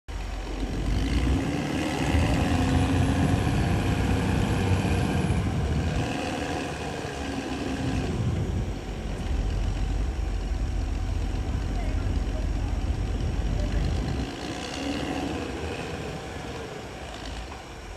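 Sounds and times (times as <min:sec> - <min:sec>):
bulldozer diesel engine running: 0:00.1 - 0:17.9.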